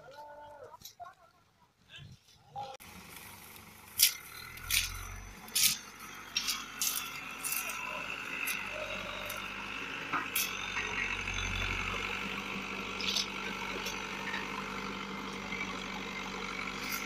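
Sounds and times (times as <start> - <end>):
diesel engine running: 2.8 - 17.0.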